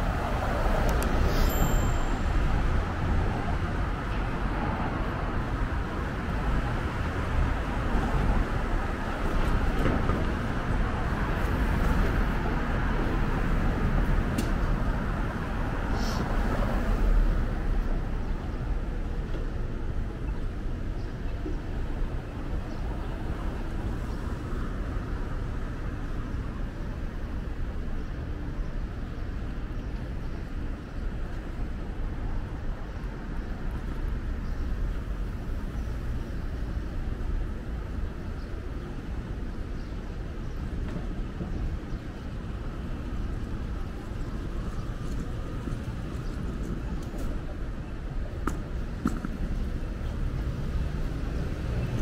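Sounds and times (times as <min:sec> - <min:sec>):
street noise: 0:00.0 - 0:52.0
traffic rumble: 0:00.0 - 0:52.0.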